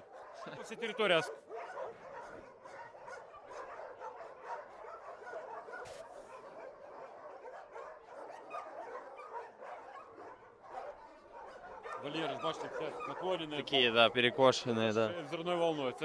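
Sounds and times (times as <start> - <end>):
many dogs barking and yelping: 0.0 - 16.0.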